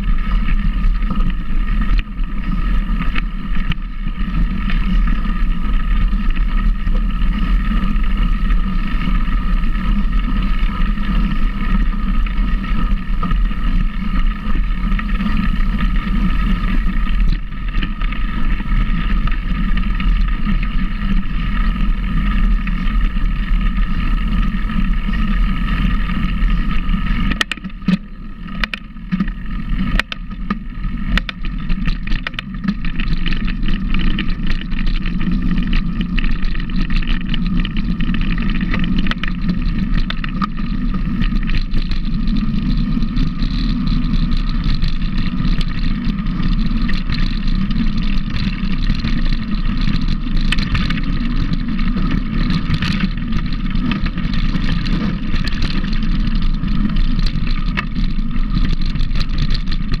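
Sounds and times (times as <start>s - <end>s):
vehicle engine running: 0.0s - 60.0s.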